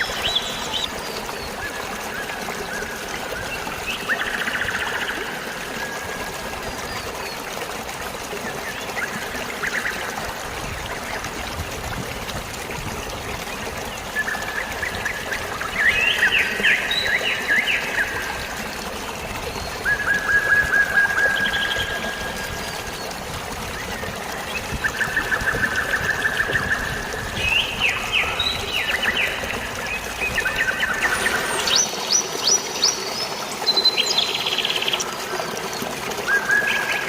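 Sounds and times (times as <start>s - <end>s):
birds singing: 0.0s - 11.4s, 13.0s - 37.0s
water trickling and splashing: 0.0s - 37.0s.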